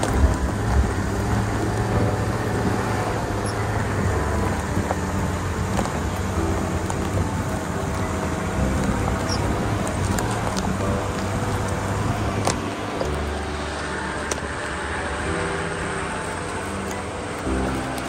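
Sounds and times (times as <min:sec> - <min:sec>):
off-road vehicle engine running: 0:00.0 - 0:18.0.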